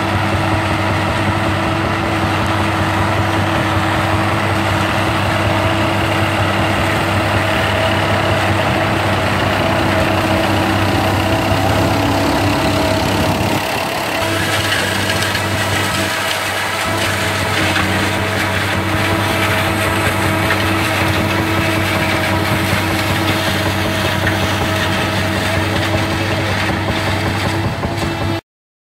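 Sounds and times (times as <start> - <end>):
tractor engines droning: 0.0 - 28.4.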